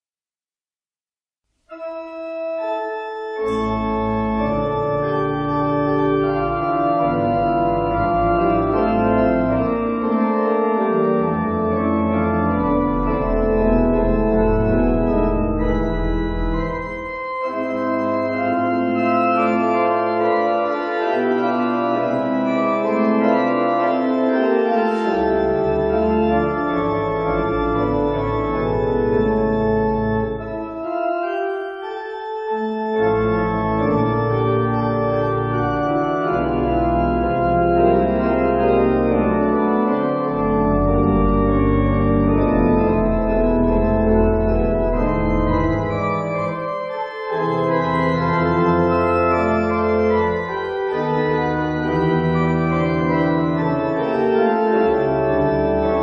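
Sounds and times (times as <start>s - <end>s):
organ playing slow chords: 1.7s - 56.0s.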